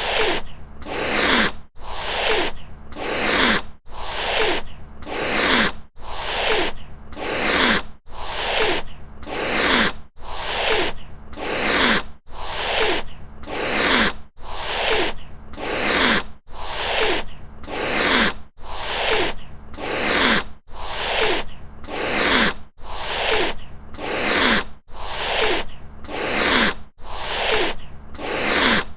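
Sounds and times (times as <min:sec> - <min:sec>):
cat hissing: 0:00.0 - 0:28.9.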